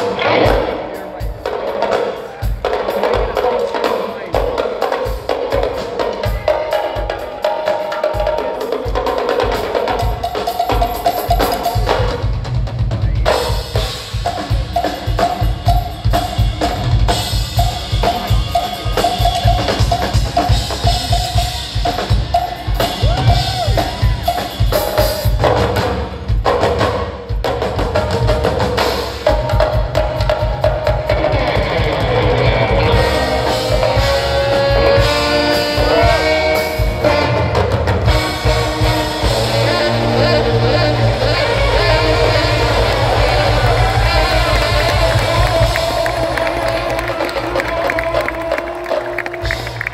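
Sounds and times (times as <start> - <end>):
drum kit beat: 0.0 - 49.9
live band playing instrumental: 0.0 - 49.9.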